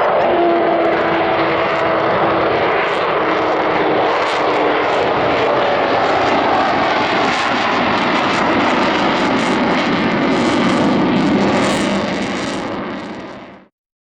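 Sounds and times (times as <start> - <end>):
aircraft engine in flight: 0.0 - 13.7.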